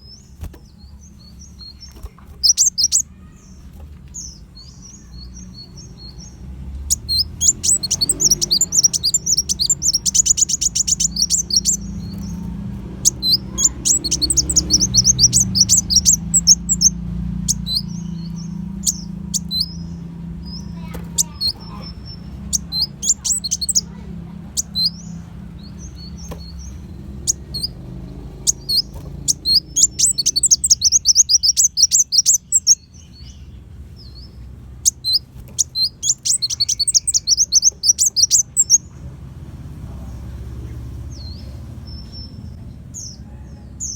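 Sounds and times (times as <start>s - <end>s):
sharp bird chirps: 0.0s - 38.9s
bird chattering trills: 0.0s - 39.0s.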